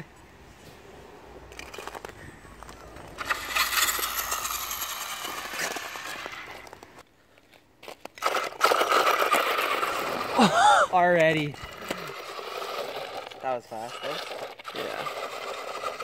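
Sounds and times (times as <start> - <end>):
studs scraping on ice: 1.5 - 16.0.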